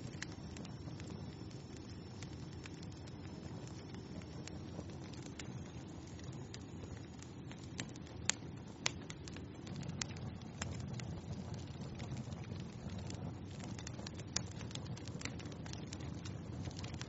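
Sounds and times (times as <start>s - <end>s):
low rush of flames: 0.0s - 17.0s
wood fire crackling and popping: 0.0s - 17.0s.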